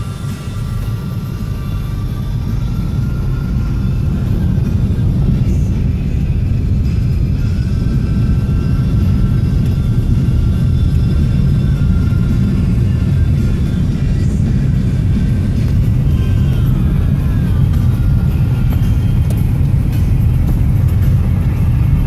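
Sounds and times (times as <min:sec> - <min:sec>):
car interior rumble: 0:00.0 - 0:22.0
music playing: 0:00.0 - 0:22.0.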